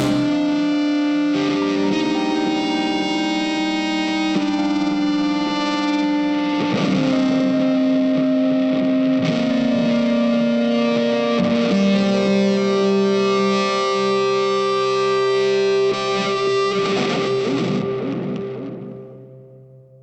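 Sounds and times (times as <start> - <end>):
electric guitar long notes: 0.0 - 20.0.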